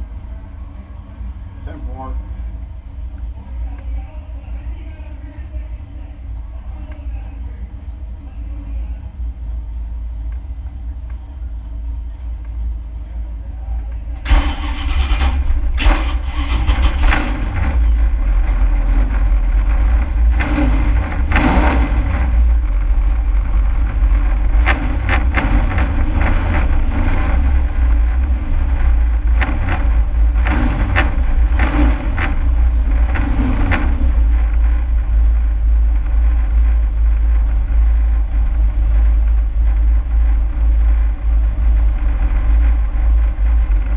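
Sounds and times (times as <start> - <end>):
truck engine rumbling: 0.0 - 43.9.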